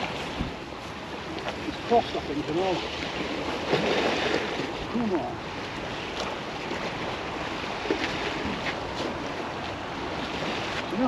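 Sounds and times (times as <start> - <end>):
water washing against bank: 0.0 - 11.0.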